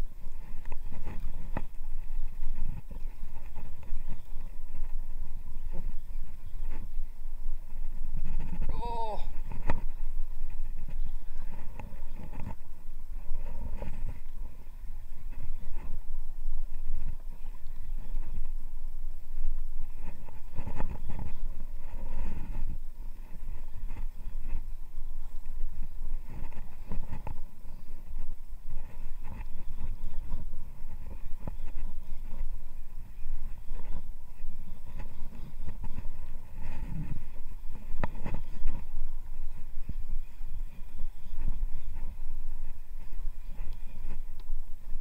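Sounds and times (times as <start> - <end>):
boat engine rumble: 0.0 - 45.0
wind buffeting microphone: 0.0 - 45.0.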